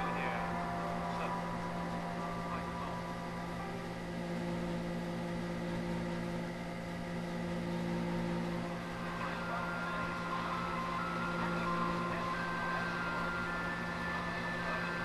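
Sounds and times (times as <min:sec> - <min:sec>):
faint steady tones: 0:00.0 - 0:15.0
steady low hum: 0:00.0 - 0:15.0.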